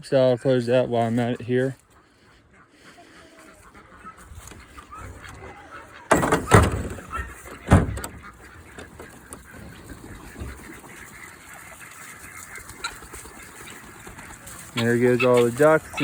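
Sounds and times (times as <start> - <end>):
ducks quacking: 0.0 - 16.0
poultry: 0.0 - 16.0.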